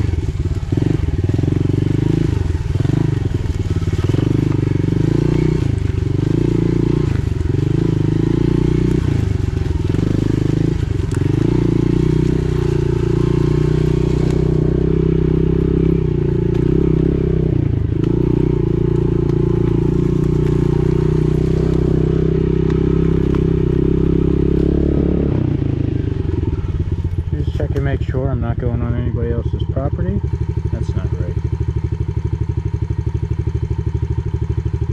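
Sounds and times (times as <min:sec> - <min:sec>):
pit bike engine running: 0:00.0 - 0:34.9.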